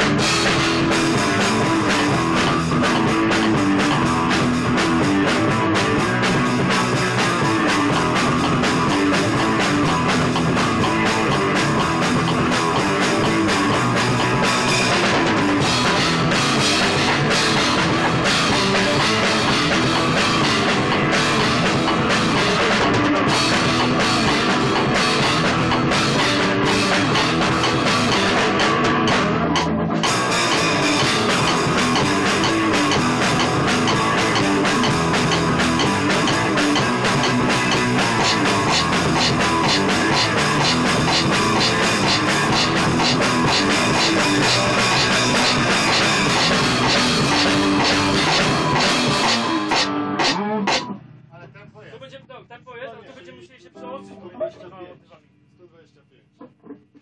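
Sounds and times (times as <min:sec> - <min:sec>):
loud rock music with drums: 0:00.0 - 0:51.2.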